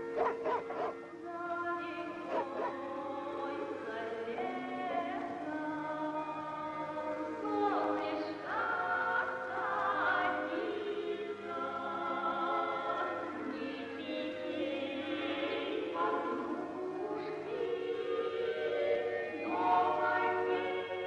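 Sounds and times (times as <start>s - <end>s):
choir singing sustained chords: 0.0s - 21.0s.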